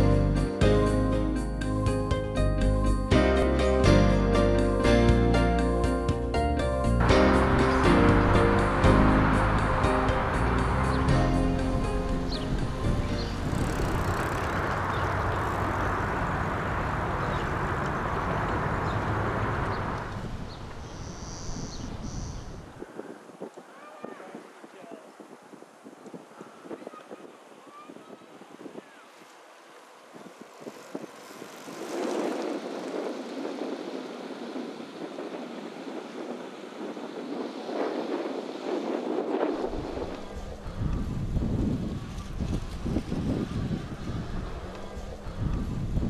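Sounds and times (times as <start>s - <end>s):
bicycle tyres rolling on pavement: 7.0s - 46.0s
wind over microphone: 7.2s - 46.0s.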